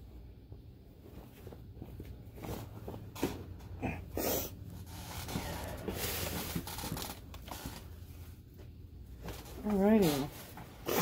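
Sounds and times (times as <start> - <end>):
clothes and bag rustling: 0.5 - 3.8, 4.7 - 11.0.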